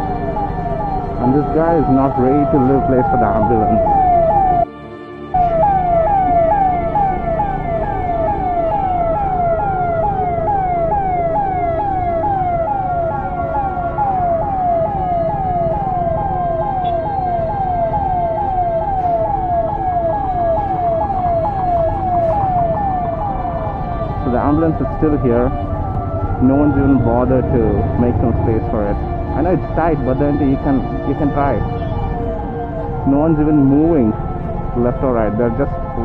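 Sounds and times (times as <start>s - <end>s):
traffic rumble: 0.0s - 4.6s, 5.4s - 36.0s
ambulance siren yelping: 0.0s - 36.0s.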